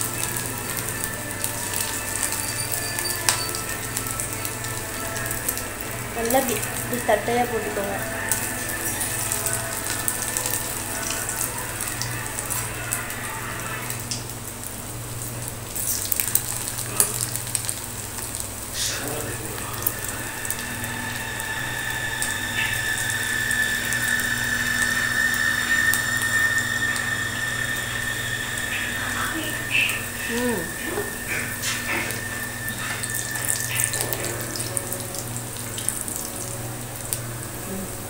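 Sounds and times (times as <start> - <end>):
steady high tone: 0.0 - 14.1, 18.8 - 38.0
patties sizzling in oil: 0.0 - 38.0.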